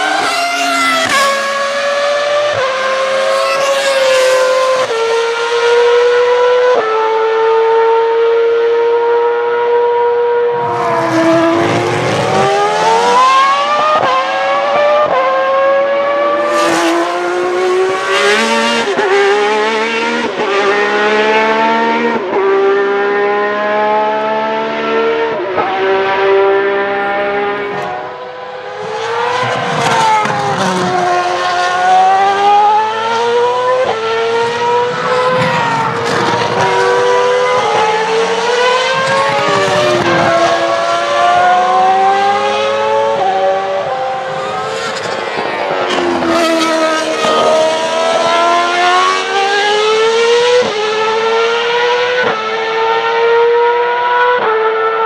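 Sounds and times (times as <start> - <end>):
racing car engines revving high: 0.0 - 55.0.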